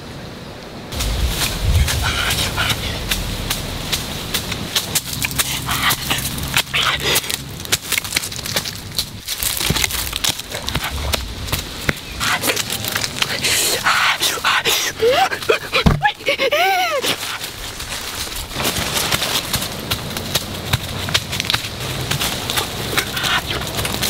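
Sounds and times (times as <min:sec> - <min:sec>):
dry leaves and twigs crackling: 0:00.9 - 0:24.0.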